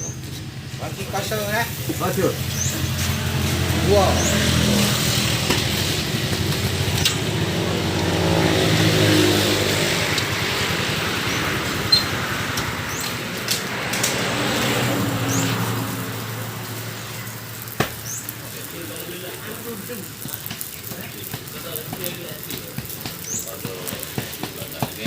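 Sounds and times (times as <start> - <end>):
motor vehicle engine hum: 0.0 - 25.0.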